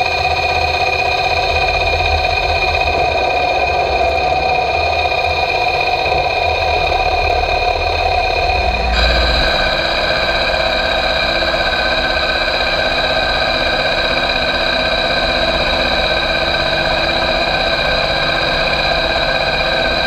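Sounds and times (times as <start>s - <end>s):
lathe machine hum: 0.0s - 20.0s.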